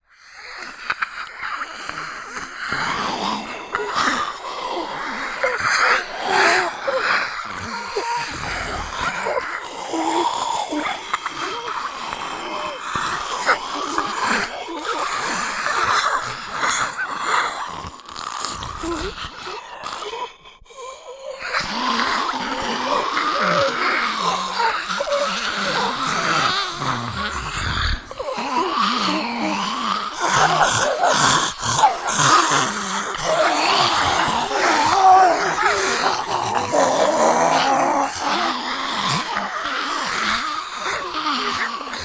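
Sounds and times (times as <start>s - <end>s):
zombie groans and growls: 1.3s - 42.0s.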